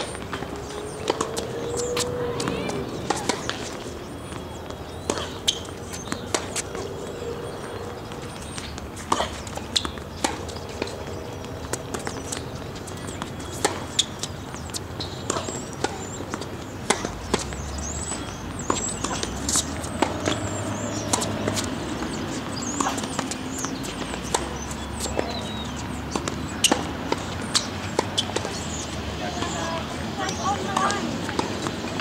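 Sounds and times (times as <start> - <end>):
rackets striking tennis balls: 0.0 - 32.0
tennis balls bouncing on court: 0.0 - 32.0.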